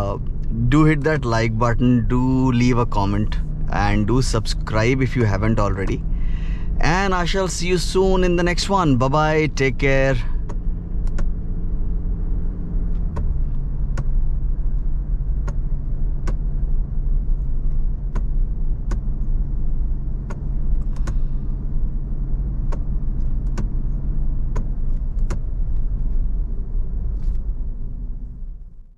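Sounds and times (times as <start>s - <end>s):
engine and road drone: 0.0s - 28.9s.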